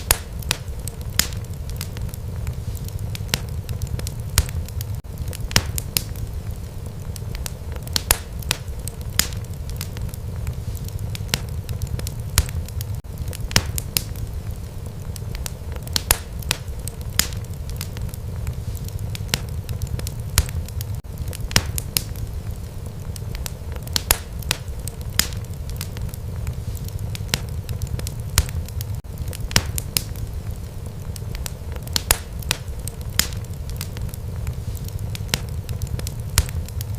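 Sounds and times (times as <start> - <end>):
fire crackles and pops: 0.0 - 36.9
low rumble of flames: 0.0 - 36.9.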